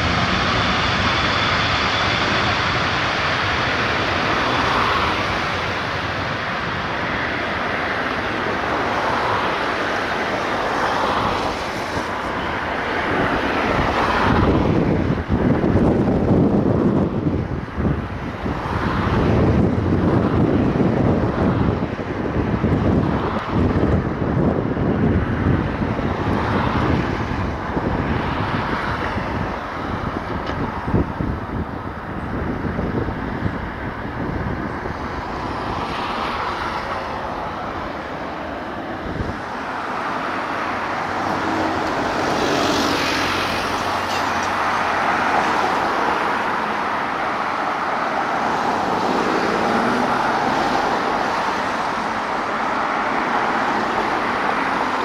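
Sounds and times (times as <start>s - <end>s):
jet aircraft roar: 0.0s - 55.0s
wind buffeting microphone: 0.0s - 55.0s.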